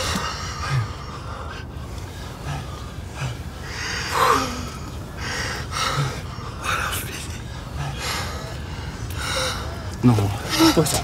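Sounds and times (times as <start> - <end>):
man breathing heavily: 0.0 - 11.0.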